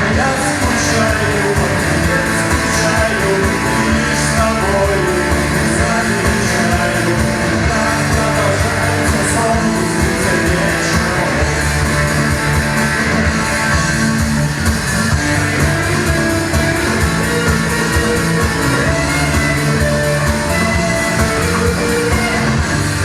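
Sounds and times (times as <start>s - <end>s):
electric guitar: 0.0s - 23.0s
rock band playing live: 0.0s - 23.0s.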